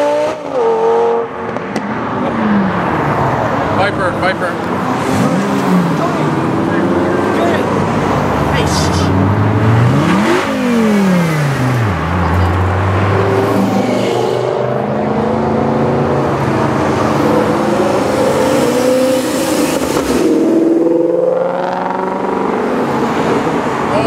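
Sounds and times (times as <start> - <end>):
car revving and accelerating: 0.0 - 24.0
car accelerating past: 4.6 - 24.0.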